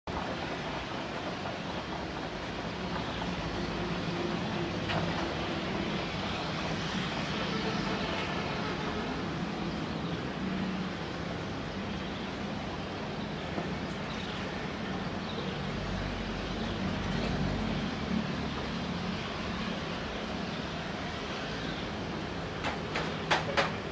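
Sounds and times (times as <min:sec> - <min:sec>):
jet engines rumbling: 0:00.1 - 0:23.9.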